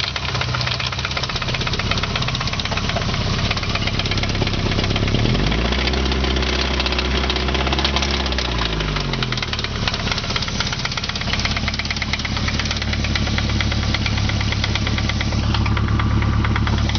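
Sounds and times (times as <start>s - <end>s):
car engine revving and idling: 0.0s - 16.9s
engine rod knocking: 0.0s - 16.9s.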